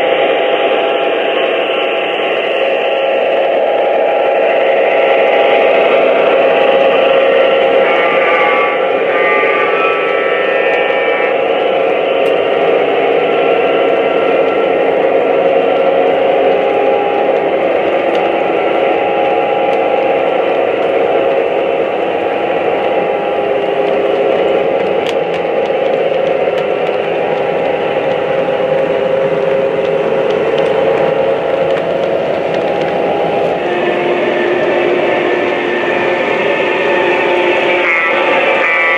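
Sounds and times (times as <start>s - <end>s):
model train wheels on track: 0.0s - 38.9s.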